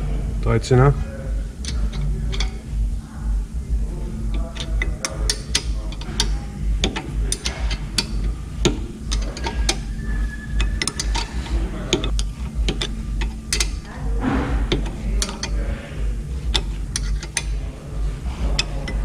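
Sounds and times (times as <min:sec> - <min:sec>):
low steady rumble: 0:00.0 - 0:19.0
hand ratchet clicking: 0:01.5 - 0:19.0
tools clinking on metal: 0:01.6 - 0:02.7, 0:04.2 - 0:19.0.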